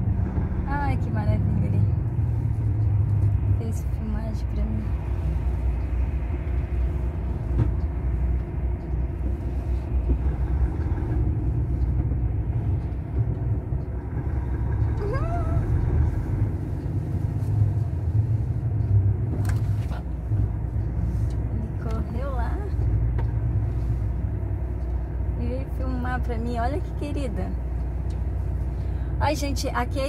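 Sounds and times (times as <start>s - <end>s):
truck engine rumble: 0.0s - 30.0s.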